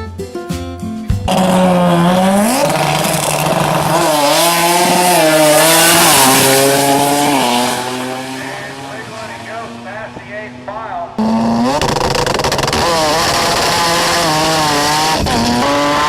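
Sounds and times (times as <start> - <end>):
car engine revving hard: 1.3 - 16.0.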